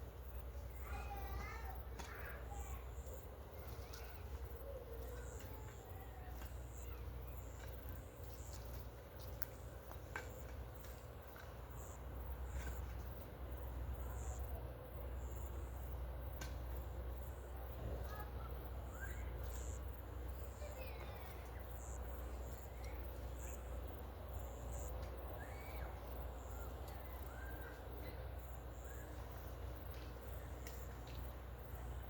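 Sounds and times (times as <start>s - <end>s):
birds chirping: 0.0s - 15.9s, 16.8s - 32.0s.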